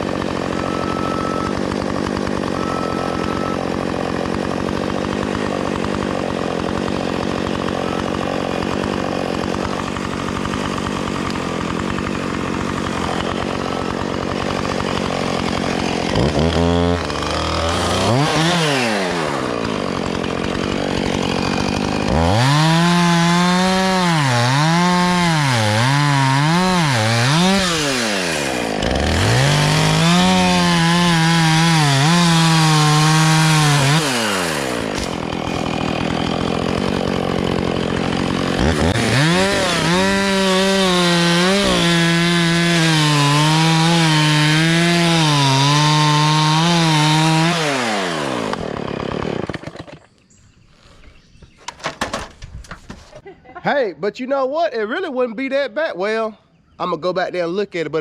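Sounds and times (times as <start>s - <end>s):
chainsaw running and revving: 0.0s - 50.1s.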